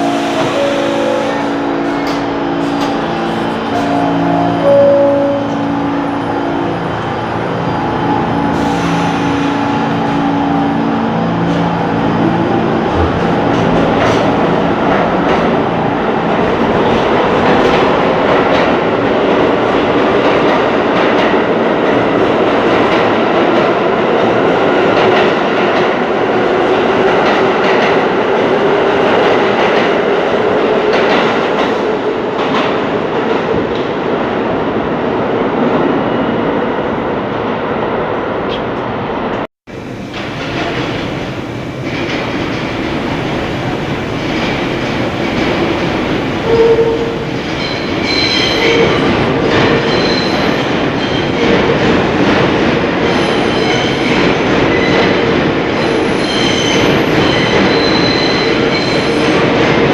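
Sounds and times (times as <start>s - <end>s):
train wheels rumbling on rails: 0.0s - 37.3s, 38.4s - 59.9s.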